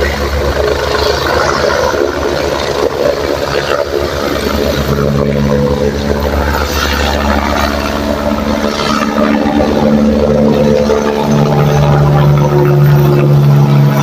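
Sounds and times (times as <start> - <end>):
helicopter rotor beat: 0.0 - 14.0.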